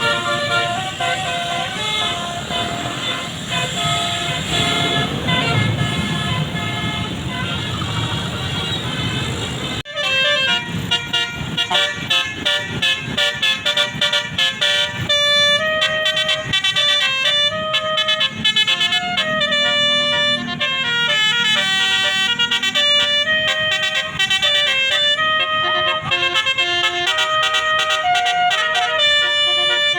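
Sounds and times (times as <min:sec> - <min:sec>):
musical air horn tooting: 0:00.0 - 0:29.9.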